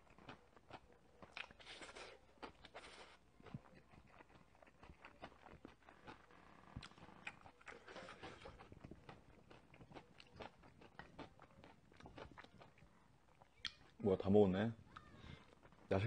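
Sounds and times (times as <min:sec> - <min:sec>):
chewing and wet mouth clicks: 0:00.0 - 0:14.0.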